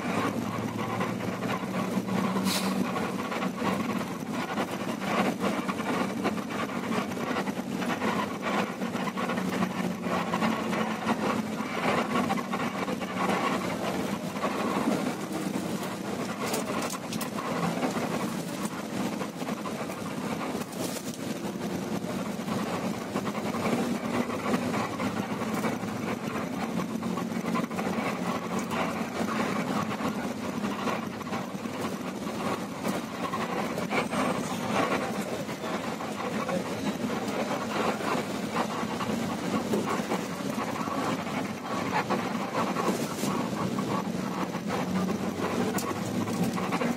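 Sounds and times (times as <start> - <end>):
bus engine drone: 0.0 - 46.9.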